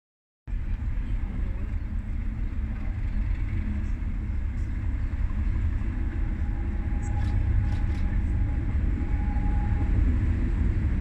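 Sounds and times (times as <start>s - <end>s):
diesel locomotive engine rumble: 0.5s - 11.0s.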